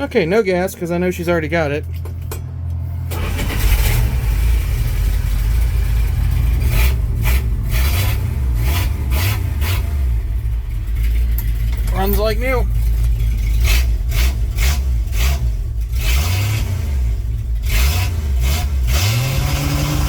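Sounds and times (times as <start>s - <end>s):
truck engine starting and running: 0.0s - 20.0s.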